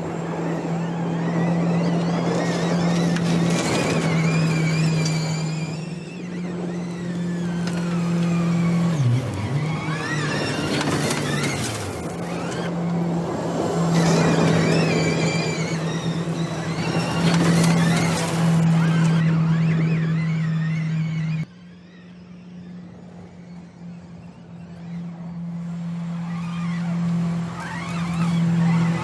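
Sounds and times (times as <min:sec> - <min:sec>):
electric motor whine: 0:00.0 - 0:29.0
low hum: 0:00.0 - 0:29.0.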